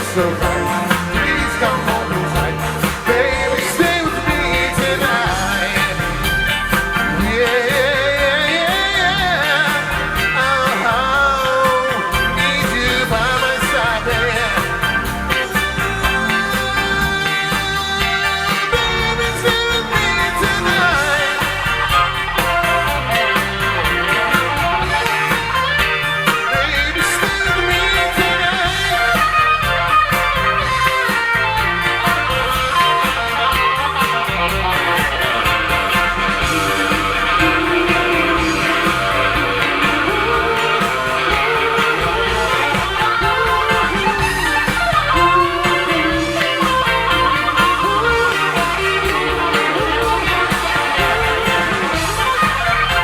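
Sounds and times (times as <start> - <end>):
drum cymbal beat: 0.0 - 53.0
electric guitar: 0.0 - 53.0
live band playing: 0.0 - 53.0.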